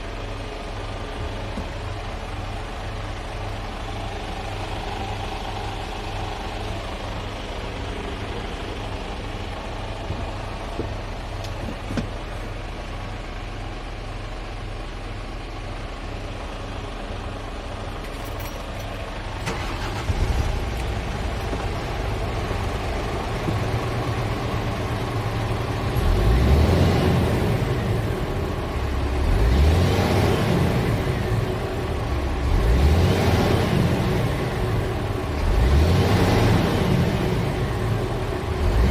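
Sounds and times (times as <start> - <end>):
diesel truck engine idling and revving: 0.0 - 38.9.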